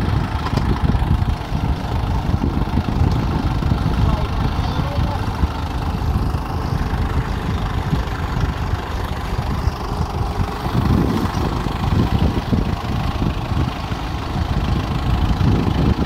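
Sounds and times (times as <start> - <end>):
tractor diesel engine rumbling: 0.0 - 16.0.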